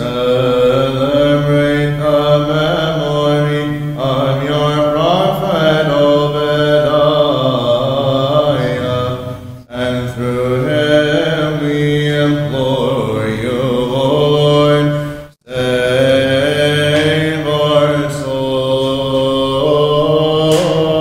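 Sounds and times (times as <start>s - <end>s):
low held vocal drone: 0.0s - 21.0s
voices chanting a melody: 0.0s - 21.0s.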